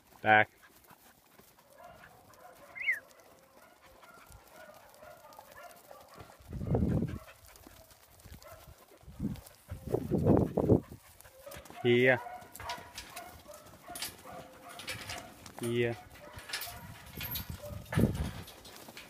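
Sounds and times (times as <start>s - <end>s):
sheep hooves shuffling on dirt: 0.0s - 19.0s.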